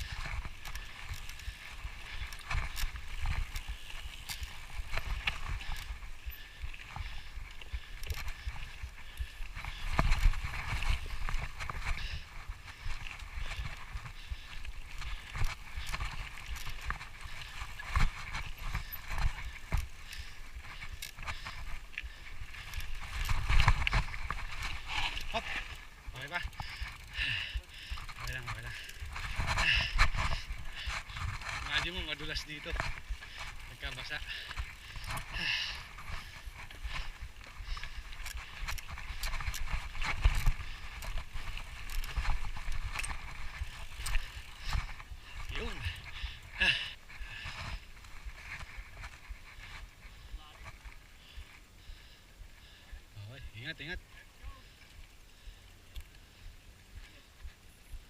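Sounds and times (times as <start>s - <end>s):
bike rolling over dirt trail: 0.0s - 51.4s.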